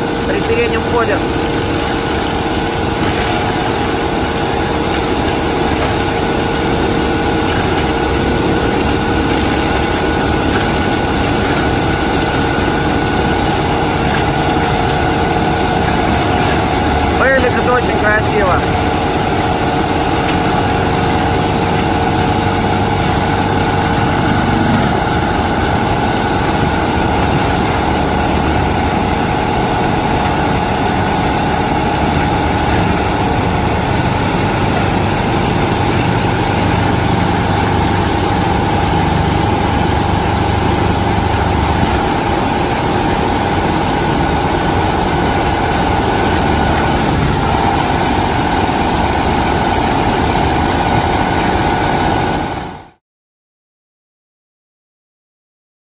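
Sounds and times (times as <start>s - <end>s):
mulcher whine: 0.0s - 52.9s
tractor engine under load: 0.0s - 52.9s.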